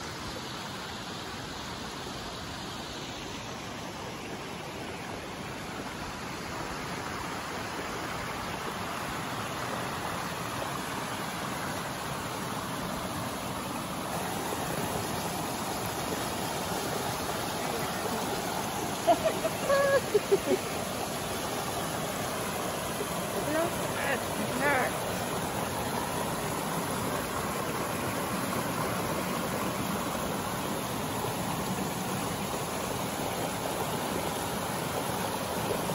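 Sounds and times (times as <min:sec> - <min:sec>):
creek water rushing over rocks: 0:00.0 - 0:35.9.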